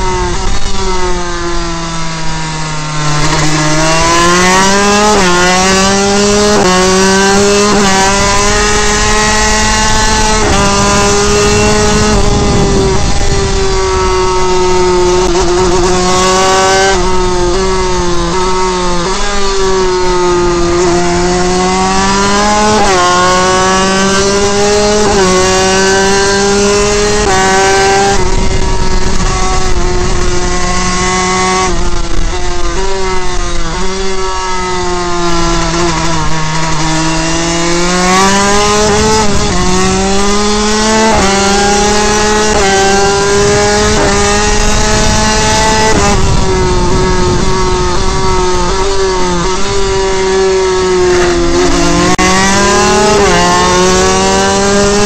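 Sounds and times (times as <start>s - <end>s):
race motorcycle engine revving: 0.0s - 55.0s
wind rushing over microphone: 0.0s - 55.0s.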